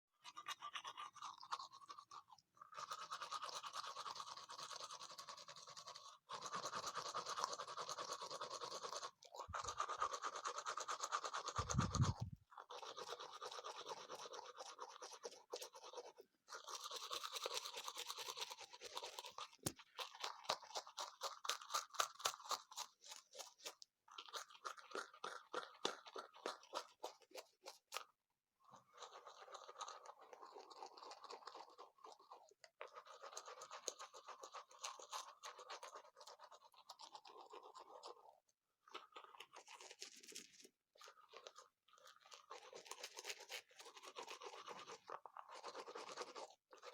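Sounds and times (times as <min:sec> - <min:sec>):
toothbrush scrubbing teeth: 0:00.1 - 0:46.9.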